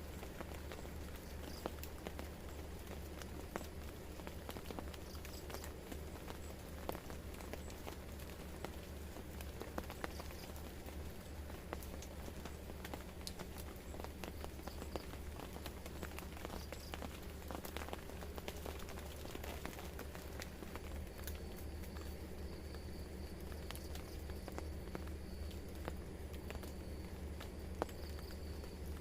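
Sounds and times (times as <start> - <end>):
rain drops pattering: 0.0 - 29.0.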